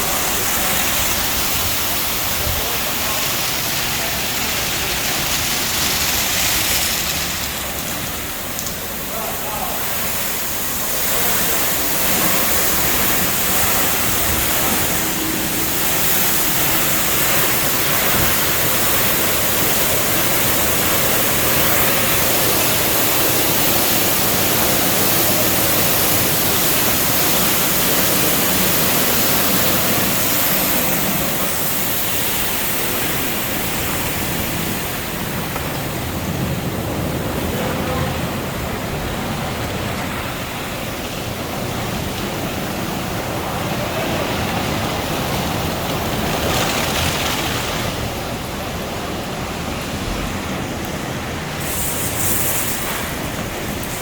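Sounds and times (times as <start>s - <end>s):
high-pressure water jets spraying: 0.0s - 54.0s.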